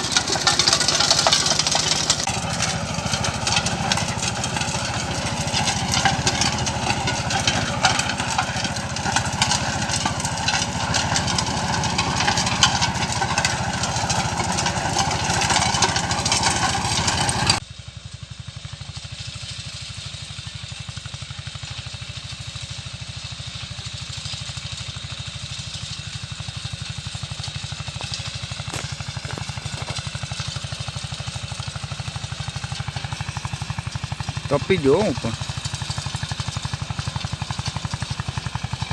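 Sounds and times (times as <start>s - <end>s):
tractor diesel engine with rattle: 0.0s - 38.9s.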